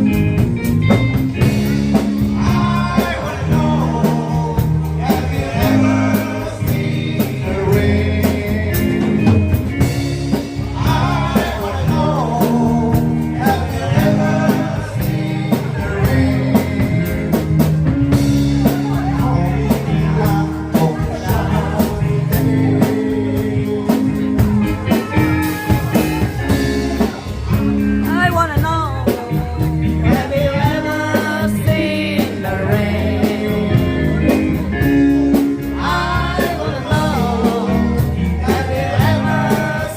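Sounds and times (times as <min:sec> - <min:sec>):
blues-rock band with singer: 0:00.0 - 0:39.9.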